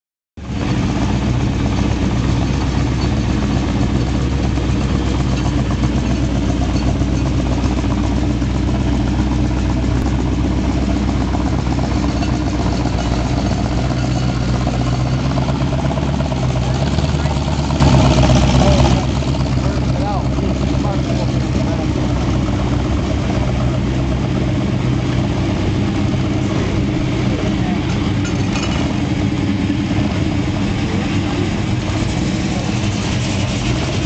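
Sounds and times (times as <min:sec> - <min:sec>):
car engine idling: 0:00.4 - 0:34.0.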